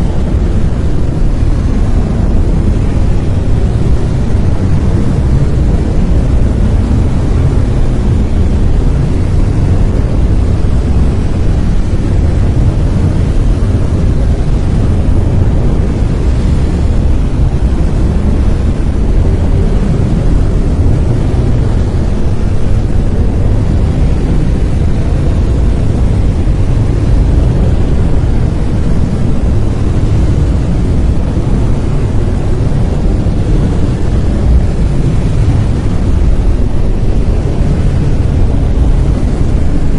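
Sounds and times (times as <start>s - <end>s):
deep rushing brown noise: 0.0s - 39.9s.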